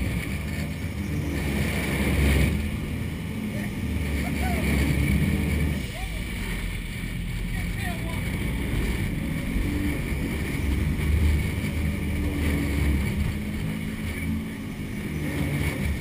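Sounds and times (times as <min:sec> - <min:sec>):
boat engines droning: 0:00.0 - 0:16.0
rushing wake water: 0:00.0 - 0:16.0
wind: 0:00.0 - 0:16.0.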